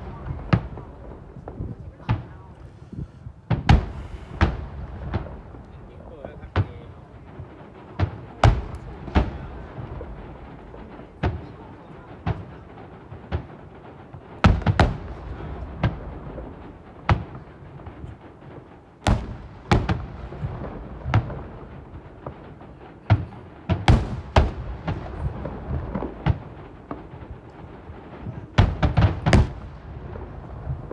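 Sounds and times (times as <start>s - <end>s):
fireworks booming: 0.0s - 30.9s.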